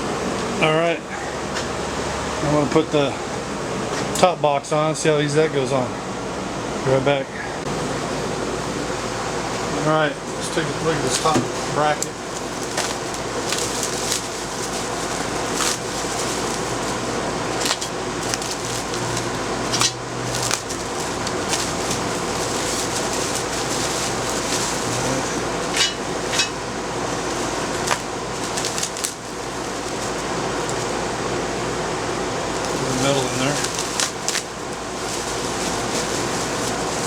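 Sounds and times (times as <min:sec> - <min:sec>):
air-conditioning unit whirring: 0:00.0 - 0:37.0.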